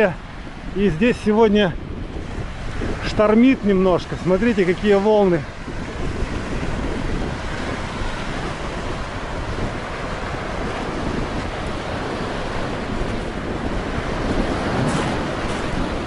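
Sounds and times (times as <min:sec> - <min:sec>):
waves breaking on shore: 0:00.0 - 0:16.0
wind buffeting microphone: 0:00.0 - 0:16.0.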